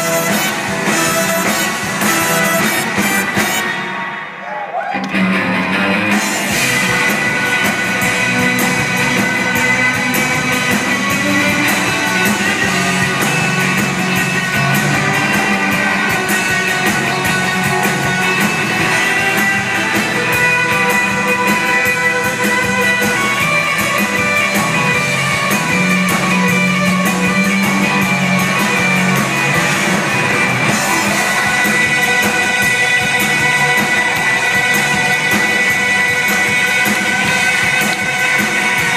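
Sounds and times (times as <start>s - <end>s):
live band playing amplified music: 0.0s - 38.9s.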